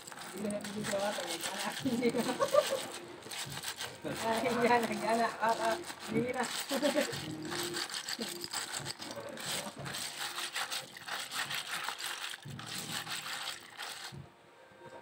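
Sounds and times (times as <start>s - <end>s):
shellfish shells clattering: 0.0s - 14.2s.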